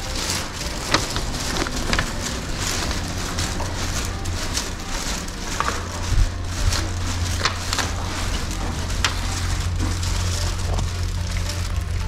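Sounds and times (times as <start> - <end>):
low rumble: 0.0 - 12.0
rustling crackling walking noise: 0.0 - 12.0.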